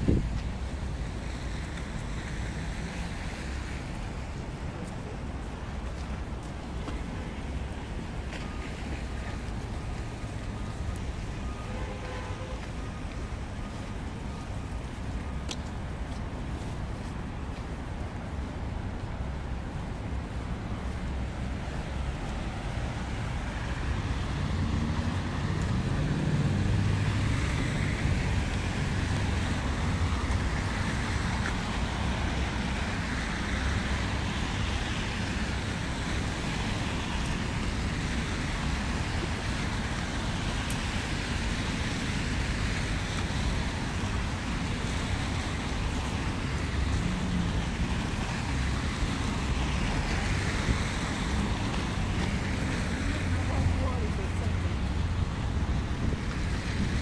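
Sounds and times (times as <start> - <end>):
city road traffic: 0.0 - 57.0.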